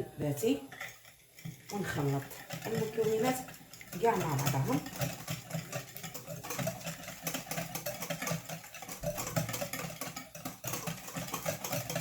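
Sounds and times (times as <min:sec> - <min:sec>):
batter beaten in a bowl: 0:00.0 - 0:12.0
whisk clicking against bowl: 0:00.5 - 0:12.0.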